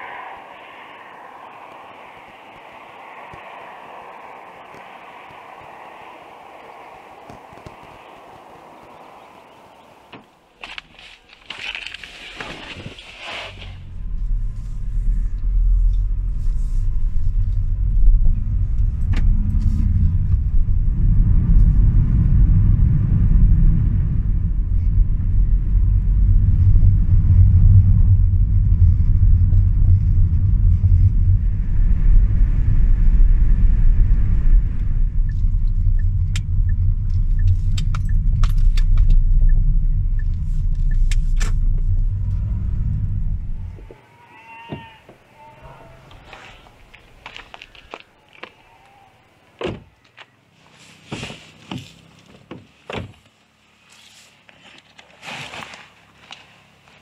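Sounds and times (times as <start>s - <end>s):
road and engine rumble: 0.0s - 44.1s, 44.7s - 57.0s.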